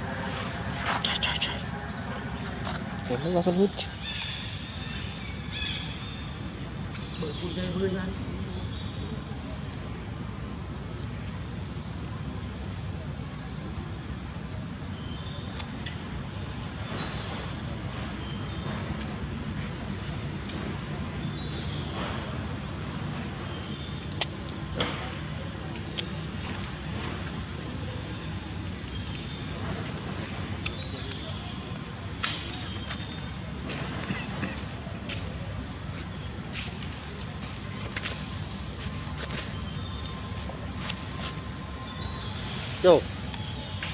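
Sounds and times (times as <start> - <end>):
insects chorus drone: 0.0 - 43.9.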